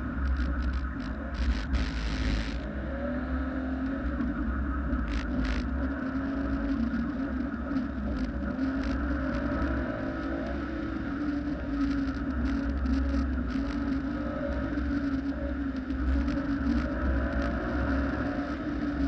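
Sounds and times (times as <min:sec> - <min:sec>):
car engine running hard: 0:00.0 - 0:19.0.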